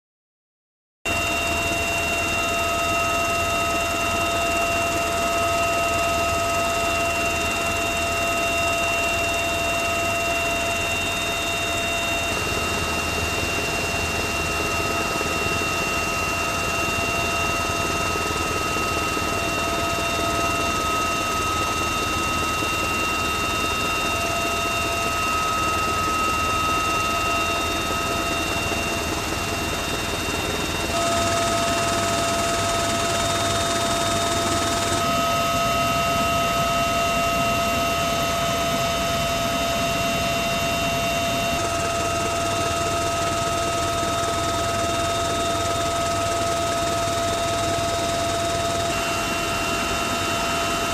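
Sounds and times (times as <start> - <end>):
helicopter engines and rotor drone: 1.1 - 50.9
high whining tones: 1.2 - 46.5.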